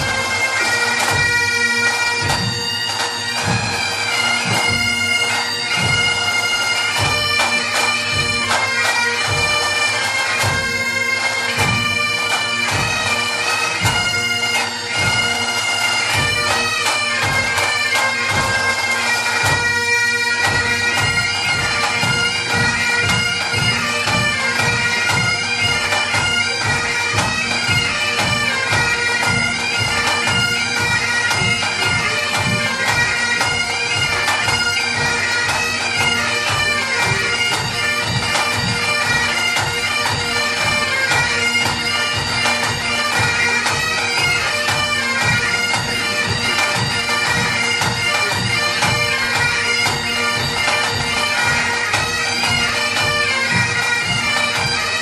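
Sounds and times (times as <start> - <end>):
bagpipes playing: 0.0 - 55.0.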